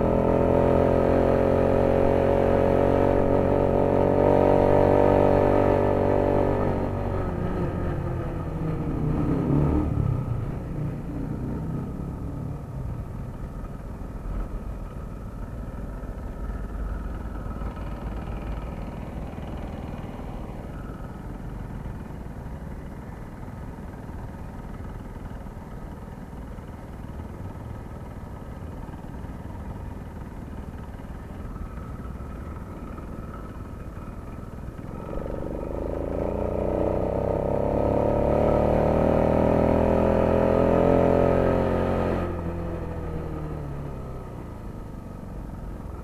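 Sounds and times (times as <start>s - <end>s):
motorcycle running: 0.0s - 46.0s
wind and road noise rumble: 0.0s - 46.0s.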